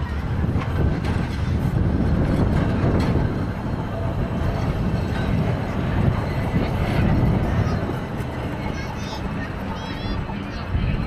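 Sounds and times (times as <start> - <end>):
tram wheels rumbling on rail: 0.0 - 11.0
wind buffeting microphone: 0.0 - 11.0.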